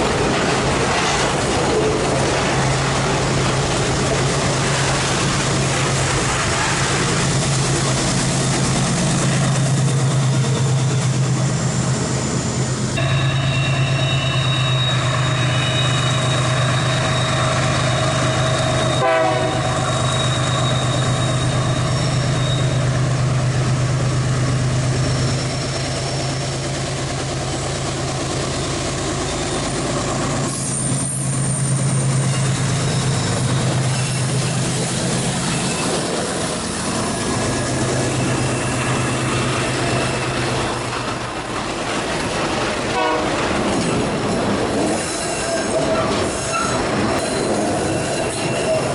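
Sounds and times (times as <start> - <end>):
locomotive engine drone: 0.0 - 48.9
rail and wagon noise: 0.0 - 48.9.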